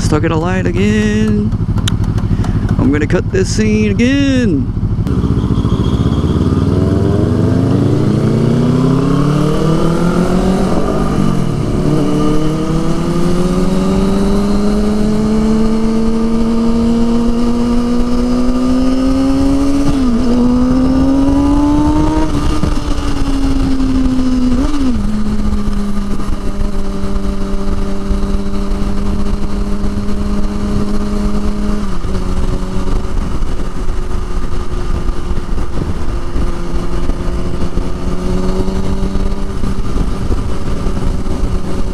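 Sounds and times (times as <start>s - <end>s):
motorcycle engine pulling away: 4.7s - 41.9s.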